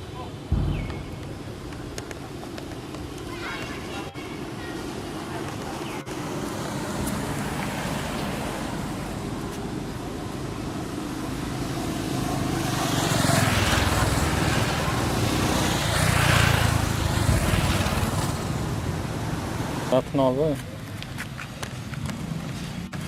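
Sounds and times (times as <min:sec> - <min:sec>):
road traffic: 0:00.0 - 0:23.0
vehicles passing close: 0:00.0 - 0:23.0.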